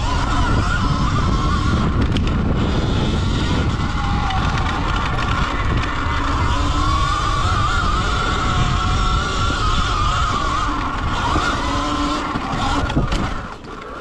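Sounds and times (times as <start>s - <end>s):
electric motor whining: 0.0s - 14.0s
tyres rumbling over dirt: 0.0s - 14.0s
wind over microphone: 0.0s - 14.0s.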